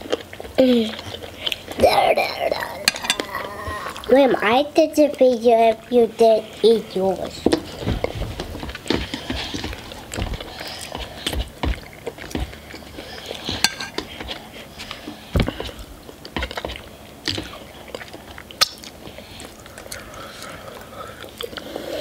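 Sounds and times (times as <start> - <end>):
people chewing: 0.0 - 22.0.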